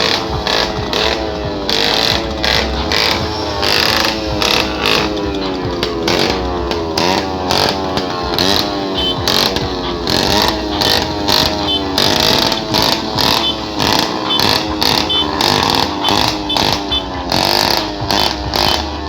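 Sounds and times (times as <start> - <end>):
loud distorted music with steady beat: 0.0 - 19.0.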